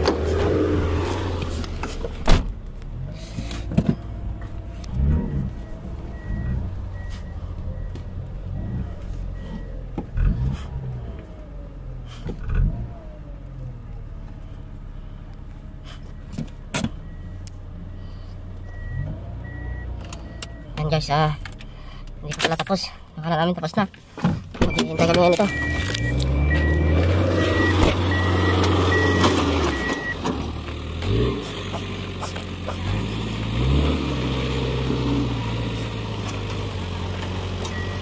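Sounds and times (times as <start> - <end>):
vehicle engines idling: 0.0 - 33.6, 34.2 - 38.0.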